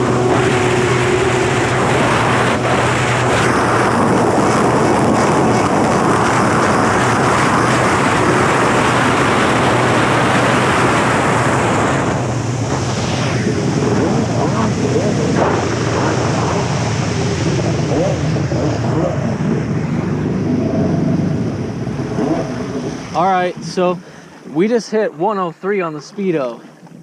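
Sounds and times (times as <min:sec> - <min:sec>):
jet ski engine at full speed: 0:00.0 - 0:27.0.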